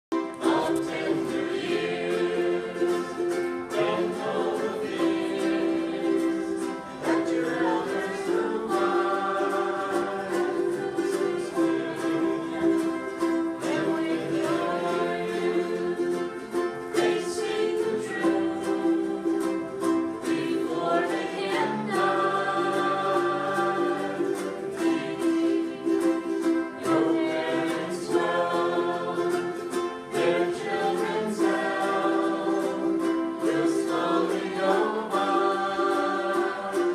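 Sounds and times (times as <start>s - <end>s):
group of voices singing: 0.1s - 36.9s
ukuleles strummed: 0.1s - 36.9s.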